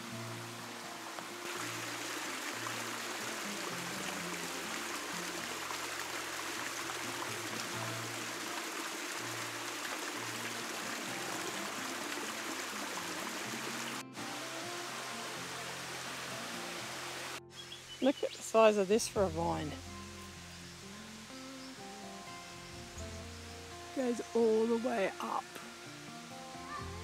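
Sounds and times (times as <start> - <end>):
running water of a creek: 0.0 - 27.0.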